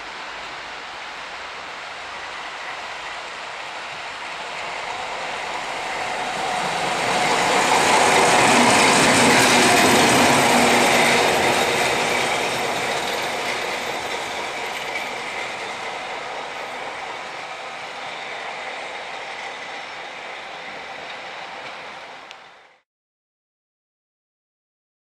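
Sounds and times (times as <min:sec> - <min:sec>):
wheels rolling on rails: 0:00.0 - 0:22.8.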